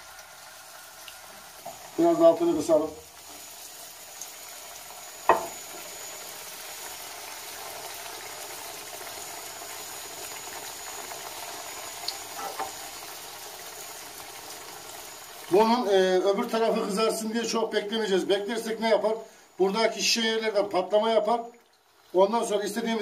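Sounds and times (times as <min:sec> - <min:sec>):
dough sizzling in hot oil: 0:00.0 - 0:23.0.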